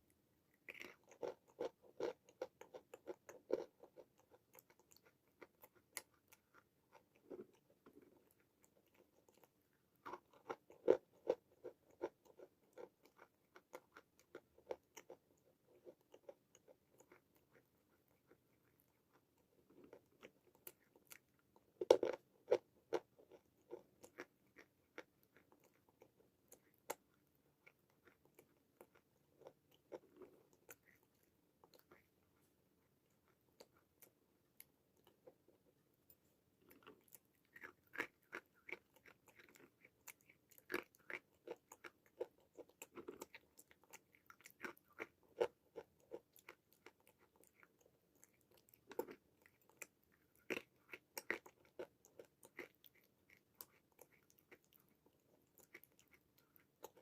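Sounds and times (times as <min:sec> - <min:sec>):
chewing crunches: 0:00.5 - 0:32.2, 0:36.6 - 0:57.0.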